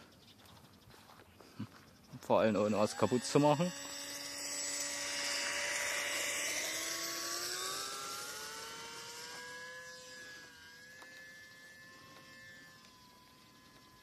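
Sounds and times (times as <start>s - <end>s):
electric motor and propeller whining: 0.0s - 14.0s.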